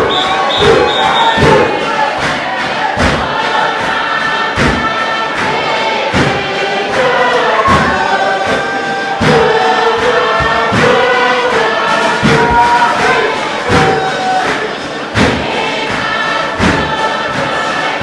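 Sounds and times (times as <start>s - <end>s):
group singing in harmony: 0.0s - 18.0s
steady struck beat: 0.0s - 18.0s.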